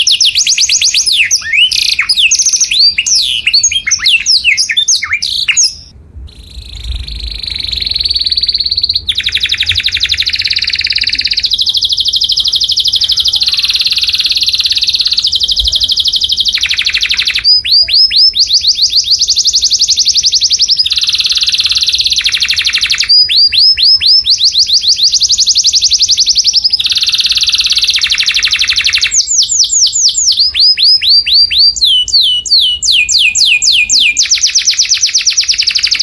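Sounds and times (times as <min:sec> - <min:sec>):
canary singing: 0:00.0 - 0:36.0.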